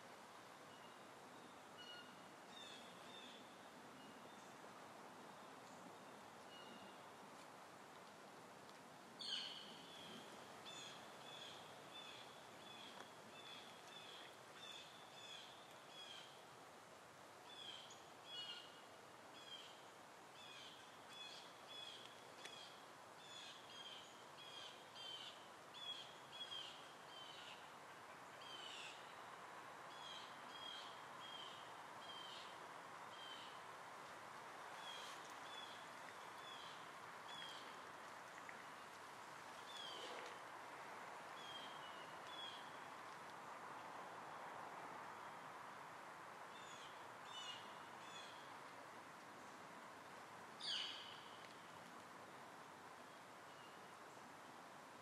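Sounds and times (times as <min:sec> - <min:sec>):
faint outdoor background noise: 0:00.0 - 0:55.0.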